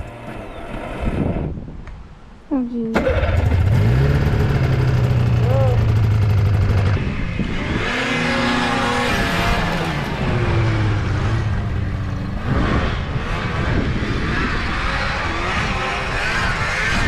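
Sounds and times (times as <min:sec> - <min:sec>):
snowmobile engine revving: 0:03.0 - 0:17.0.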